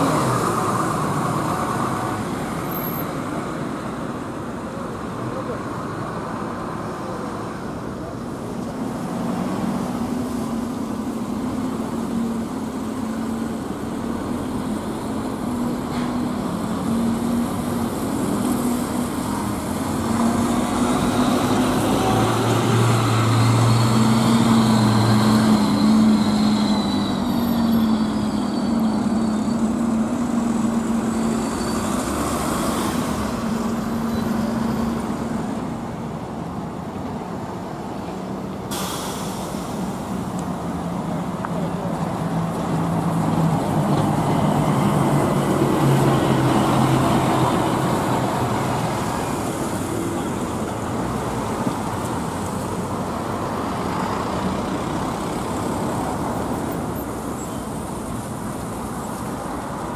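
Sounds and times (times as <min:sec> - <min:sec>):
diesel bus engine: 0:00.0 - 0:59.9
road traffic: 0:00.0 - 0:59.9.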